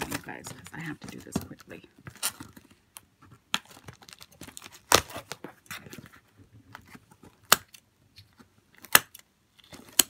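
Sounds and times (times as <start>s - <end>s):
tape crackling: 0.0s - 10.0s.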